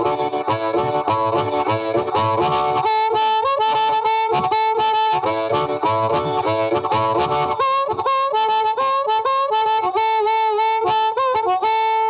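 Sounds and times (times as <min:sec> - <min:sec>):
blues harmonica: 0:00.0 - 0:12.0.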